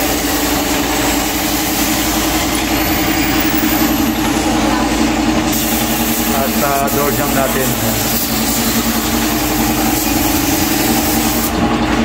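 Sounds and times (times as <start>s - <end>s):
spray gun hissing: 0.0s - 4.5s, 5.4s - 11.7s
air compressor running: 0.0s - 12.0s.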